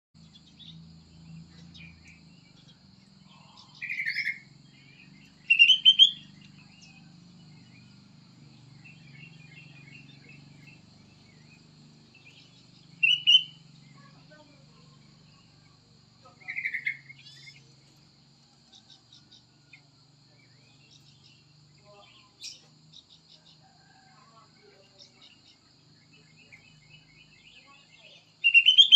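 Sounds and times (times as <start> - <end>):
bird chirping in bursts: 0.2 - 18.0, 20.4 - 24.0, 24.6 - 28.9.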